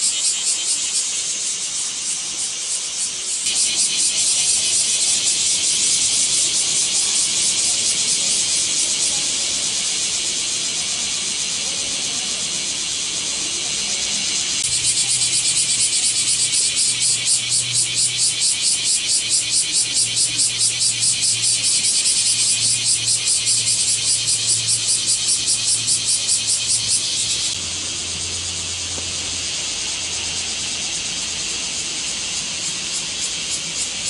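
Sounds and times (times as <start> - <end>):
cicadas buzzing: 0.0 - 34.0.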